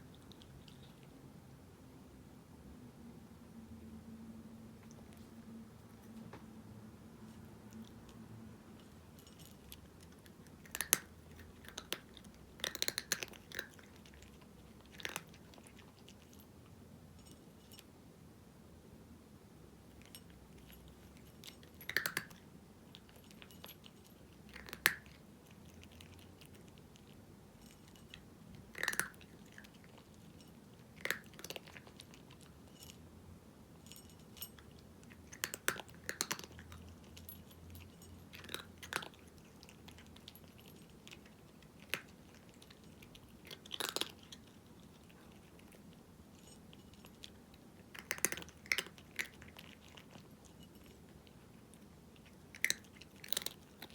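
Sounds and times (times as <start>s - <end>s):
cat crunching dry kibble: 7.2s - 17.9s, 19.9s - 33.0s, 33.8s - 53.9s.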